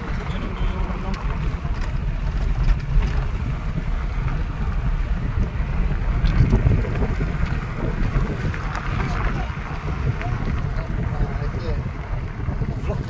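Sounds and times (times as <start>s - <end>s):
moving vehicle rumble: 0.0s - 13.0s
wind buffeting the microphone: 0.0s - 13.0s.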